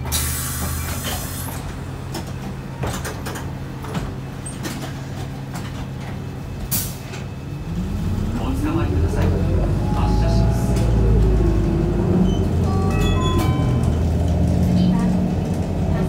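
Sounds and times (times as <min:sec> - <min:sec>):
bus idling hum: 0:00.0 - 0:16.0.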